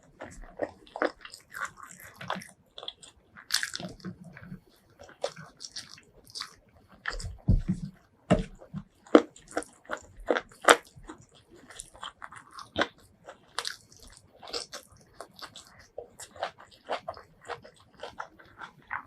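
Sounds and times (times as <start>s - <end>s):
crunchy bites and chewing: 0.0s - 19.0s.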